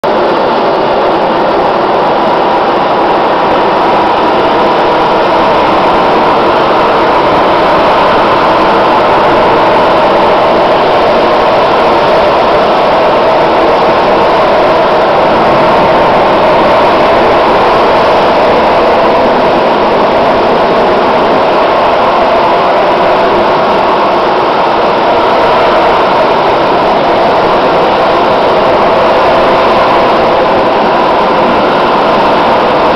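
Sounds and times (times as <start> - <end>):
jet hovering with loud jet noise: 0.0 - 32.9.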